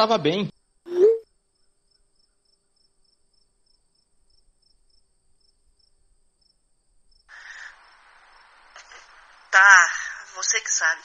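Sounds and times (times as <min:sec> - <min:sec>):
cricket chirping: 0:00.5 - 0:09.4.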